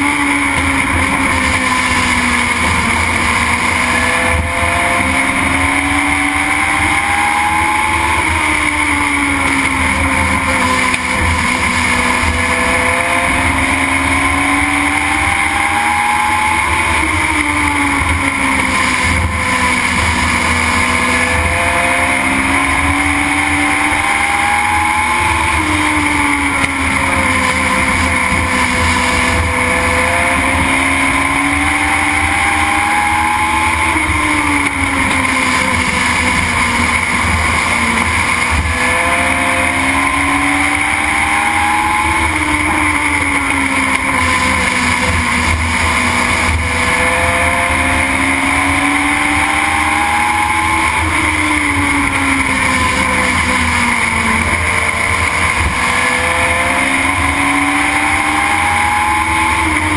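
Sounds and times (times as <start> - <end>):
racing car engine accelerating: 0.0 - 59.9
road and wind noise: 0.0 - 59.9.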